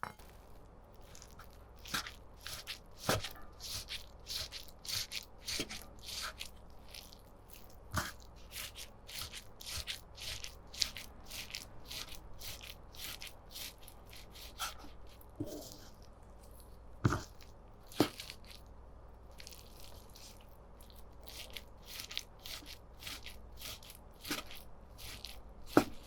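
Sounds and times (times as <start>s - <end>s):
hands squishing raw chicken: 1.0s - 26.0s.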